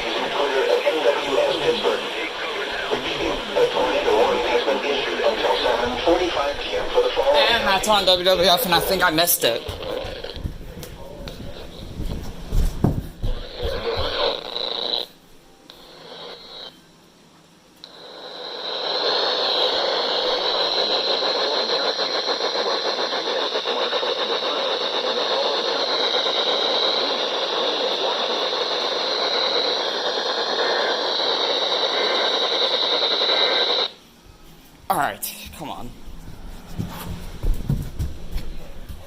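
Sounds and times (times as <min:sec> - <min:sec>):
radio static hiss: 0:00.0 - 0:37.3.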